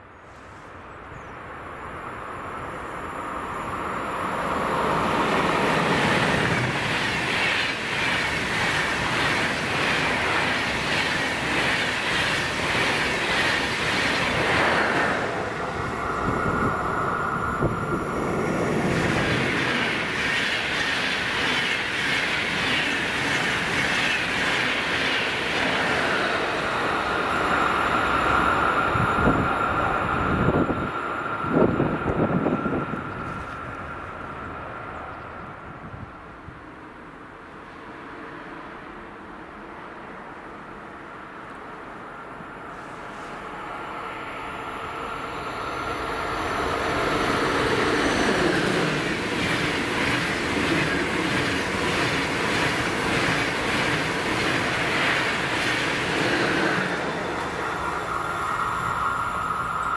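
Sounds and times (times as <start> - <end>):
train wheels rolling on track: 2.4 - 39.8, 40.6 - 59.9.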